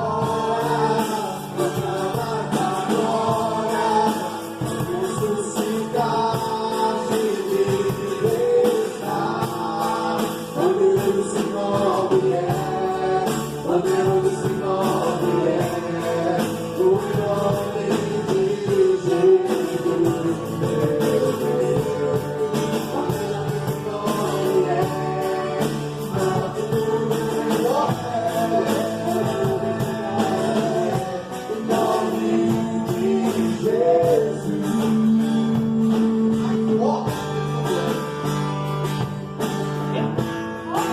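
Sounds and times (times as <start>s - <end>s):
band playing with singing: 0.0s - 40.9s.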